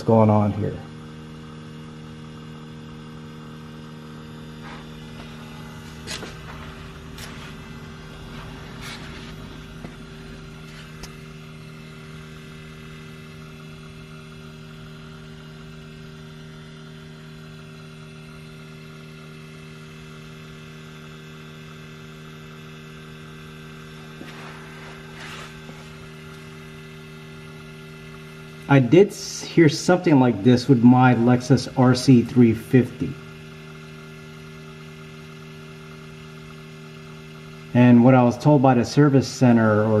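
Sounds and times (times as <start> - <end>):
steady electric hum with tones: 0.0 - 40.0.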